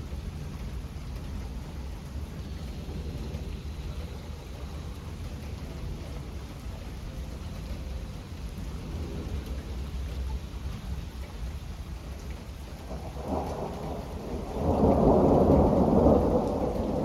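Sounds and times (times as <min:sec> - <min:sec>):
low thunder rumble: 0:00.0 - 0:17.0
steady rain: 0:00.0 - 0:17.0.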